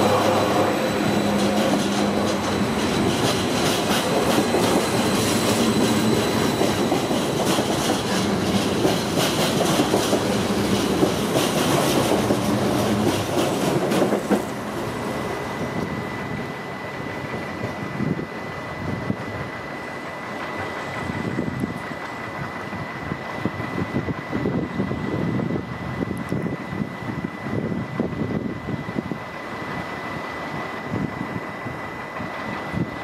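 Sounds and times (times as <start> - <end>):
electric train rumbling past: 0.0 - 33.0.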